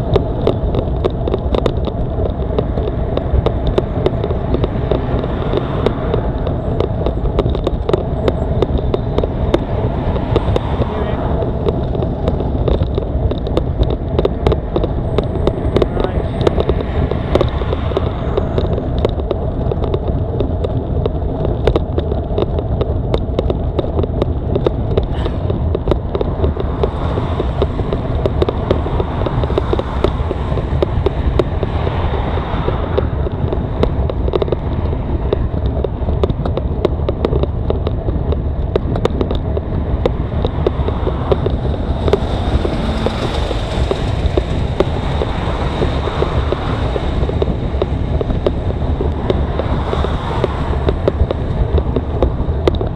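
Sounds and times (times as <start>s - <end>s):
bicycle rattles and knocks: 0.0s - 52.9s
wind rumble on microphone: 0.0s - 52.9s.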